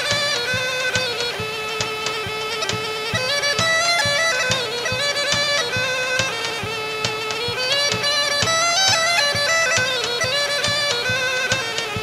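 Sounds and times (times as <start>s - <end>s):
reedy wind instrument melody: 0.0s - 12.0s
regular drum beat: 0.0s - 12.0s.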